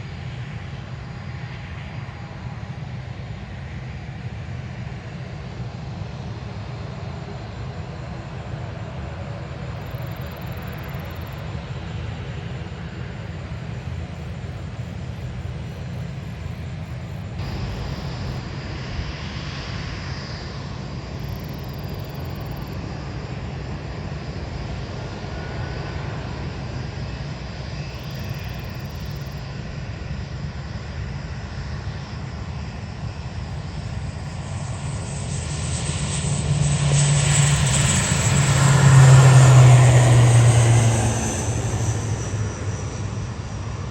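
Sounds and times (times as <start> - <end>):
jet airliner engines roaring: 0.0 - 43.9.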